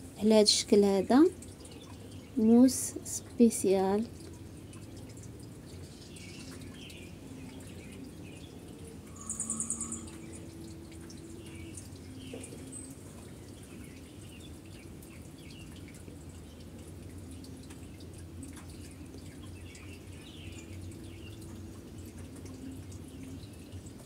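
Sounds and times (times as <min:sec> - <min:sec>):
faint ticks and chirps: 0:04.0 - 0:24.0
steady low hum: 0:04.1 - 0:24.0.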